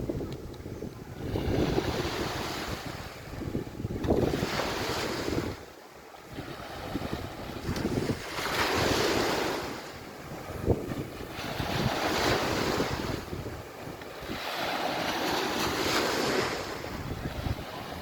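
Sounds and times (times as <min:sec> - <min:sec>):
sea waves washing onto beach: 0:00.0 - 0:18.0
wind buffeting microphone: 0:00.0 - 0:18.0.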